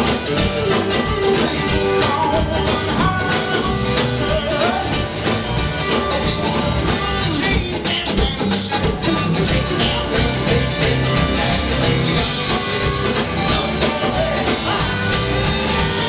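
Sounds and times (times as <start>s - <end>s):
live country-rock band: 0.0s - 16.0s.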